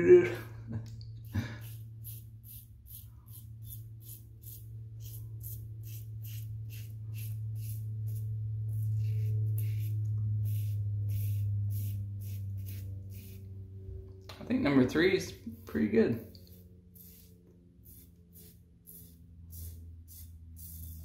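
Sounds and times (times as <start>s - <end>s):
steady low drone: 0.0s - 21.0s
razor scraping stubble: 1.6s - 13.6s, 15.5s - 21.0s.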